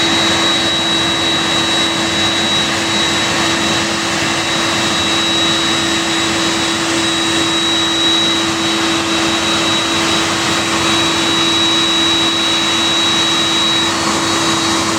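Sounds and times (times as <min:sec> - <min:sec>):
jet turbines running: 0:00.0 - 0:14.9.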